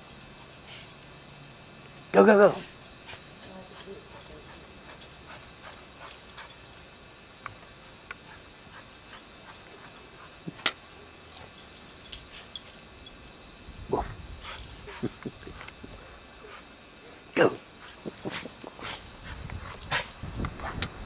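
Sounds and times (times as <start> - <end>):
light clicks and jingles: 0.0 - 13.7, 14.4 - 16.6, 17.4 - 21.0.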